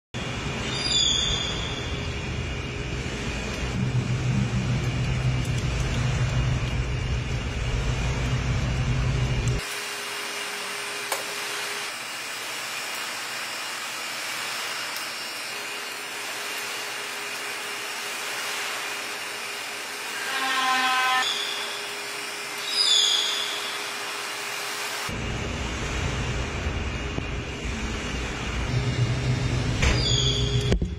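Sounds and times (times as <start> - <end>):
machine hum and hiss: 0.2 - 30.9.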